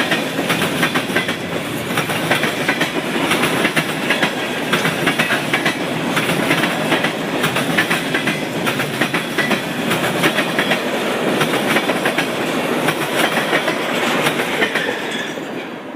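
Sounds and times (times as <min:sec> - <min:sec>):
train wheels clattering: 0:00.0 - 0:15.8
steady train rumble: 0:00.0 - 0:15.9.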